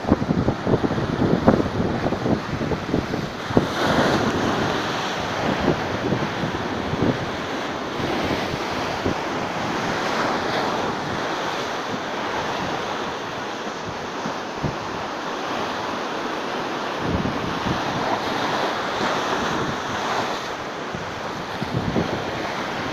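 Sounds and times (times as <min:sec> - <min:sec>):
stormy sea waves breaking: 0:00.0 - 0:22.9
wind buffeting microphone: 0:00.0 - 0:22.9.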